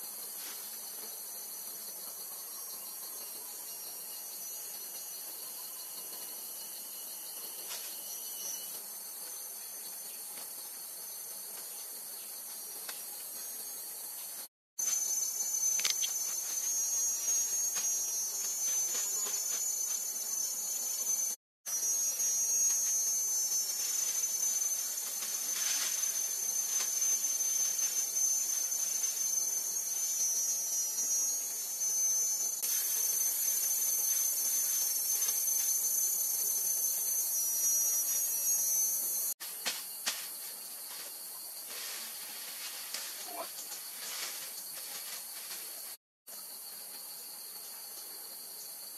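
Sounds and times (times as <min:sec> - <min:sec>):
insects buzzing: 0:00.0 - 0:48.9.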